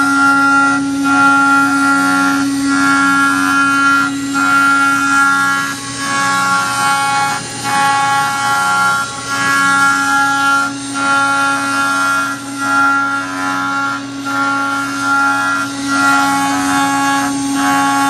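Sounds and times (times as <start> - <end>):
milling machine cutting metal: 0.0 - 18.0.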